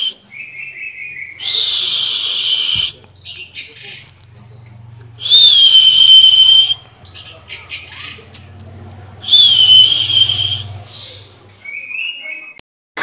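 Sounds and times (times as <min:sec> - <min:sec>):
songbirds whistling and chirping: 0:00.0 - 0:12.6.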